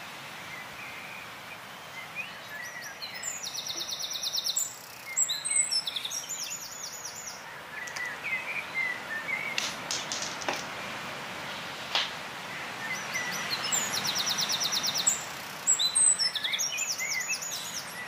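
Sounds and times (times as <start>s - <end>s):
steady background hiss: 0.0s - 18.0s
songbirds chirping and singing: 0.5s - 10.9s, 12.4s - 18.0s.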